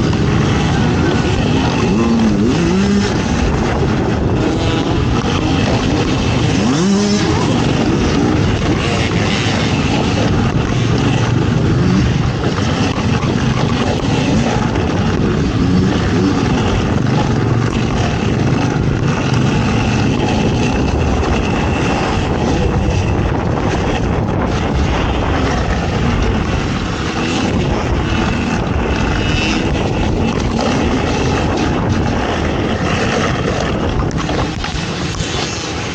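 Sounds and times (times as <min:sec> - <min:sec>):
racing engine running hard: 0:00.0 - 0:35.9
rough-terrain noise: 0:00.0 - 0:35.9
wind rushing: 0:00.0 - 0:35.9.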